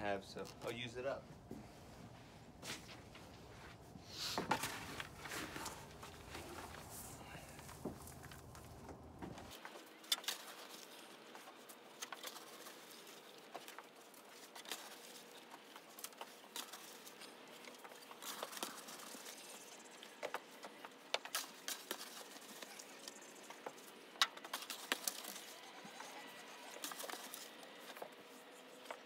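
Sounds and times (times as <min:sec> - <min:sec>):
wood shavings rustling and scraping: 0:01.7 - 0:29.0.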